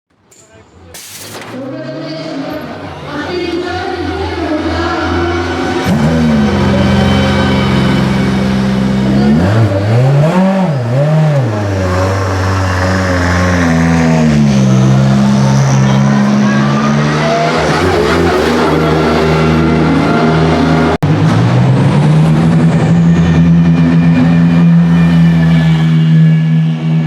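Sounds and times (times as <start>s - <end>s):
car engine running and revving: 3.5s - 27.0s.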